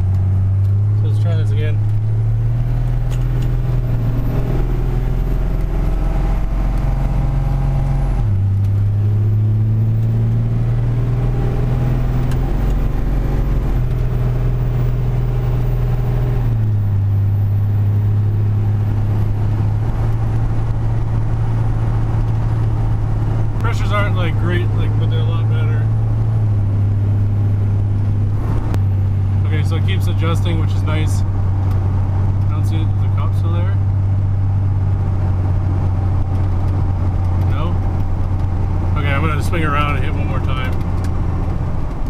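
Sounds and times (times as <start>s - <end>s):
diesel truck engine droning: 0.0s - 42.0s.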